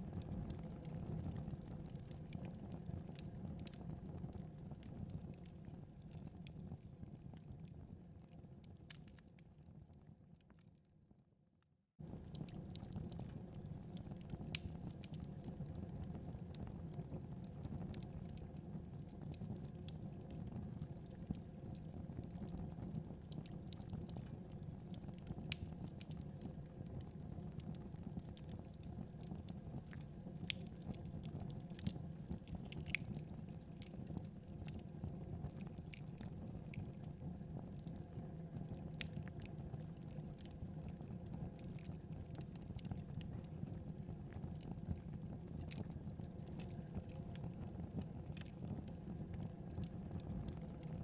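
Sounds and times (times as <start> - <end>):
wood fire crackling and popping: 0.0 - 7.9, 8.6 - 9.4, 12.0 - 51.0.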